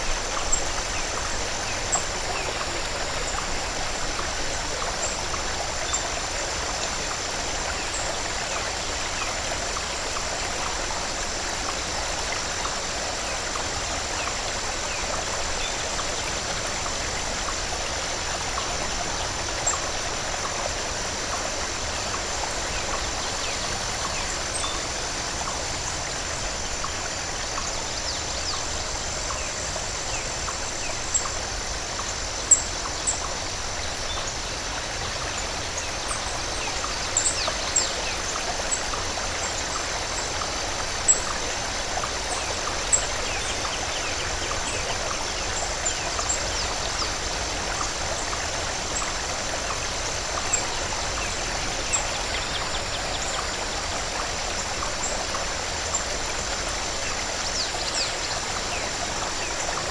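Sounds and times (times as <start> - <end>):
waterfall rushing and splashing: 0.0 - 59.9.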